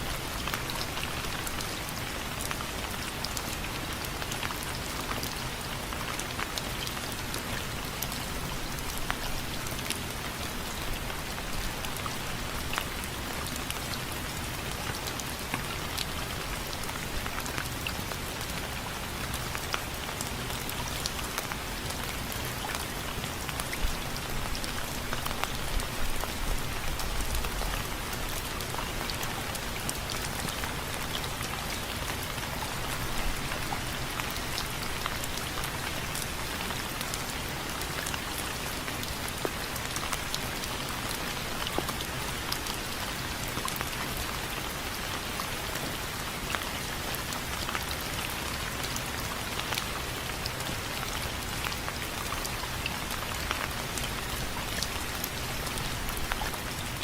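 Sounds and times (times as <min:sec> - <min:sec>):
rain on window frames: 0:00.0 - 0:57.0.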